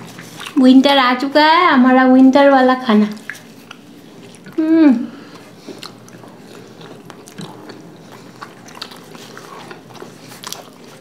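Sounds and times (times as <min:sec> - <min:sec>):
people chewing with mouth smacks: 0:00.0 - 0:01.2, 0:03.0 - 0:11.0.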